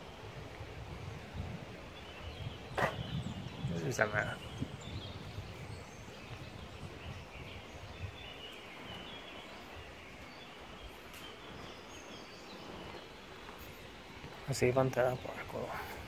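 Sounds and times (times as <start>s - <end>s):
distant birds chirping: 0.0s - 16.0s.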